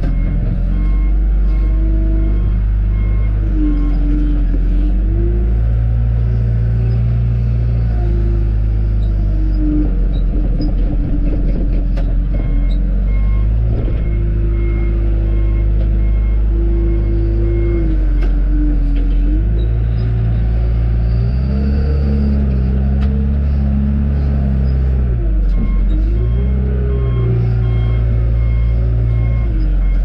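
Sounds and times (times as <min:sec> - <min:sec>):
diesel engine working under load: 0:00.0 - 0:30.0.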